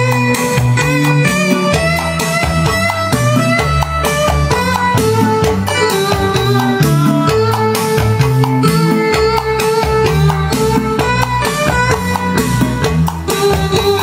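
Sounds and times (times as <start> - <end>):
plucked guitar music with drums: 0.0 - 14.0.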